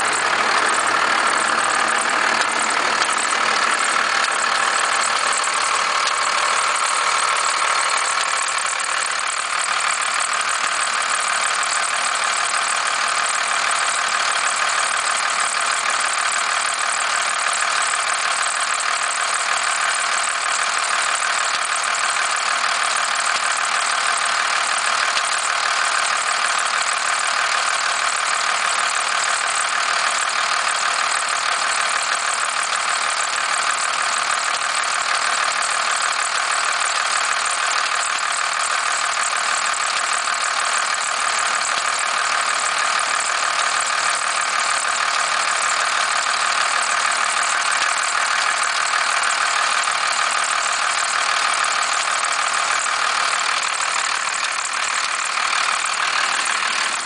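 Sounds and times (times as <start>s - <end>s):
diesel engine idling with knock: 0.0s - 57.0s.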